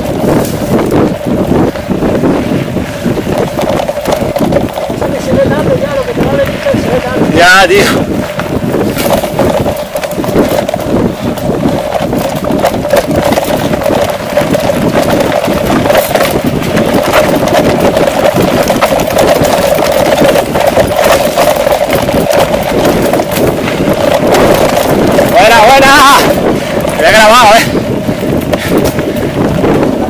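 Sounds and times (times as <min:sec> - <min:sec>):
tyres crunching on dirt and stone: 0:00.0 - 0:29.8
bike clattering and rattling: 0:00.0 - 0:30.0.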